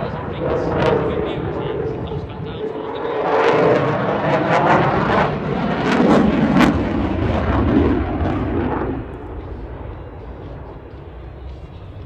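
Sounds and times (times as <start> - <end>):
jet engines roaring overhead: 0.0 - 12.0.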